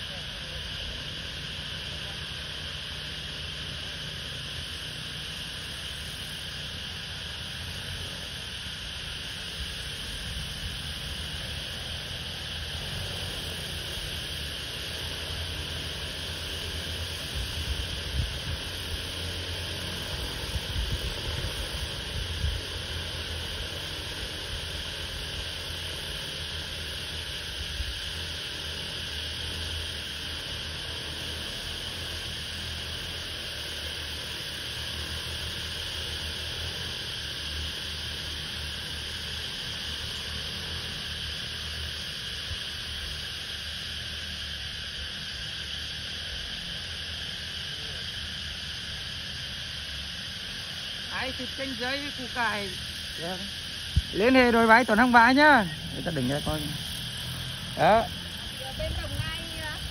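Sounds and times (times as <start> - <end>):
drone rotors humming: 0.0 - 59.9.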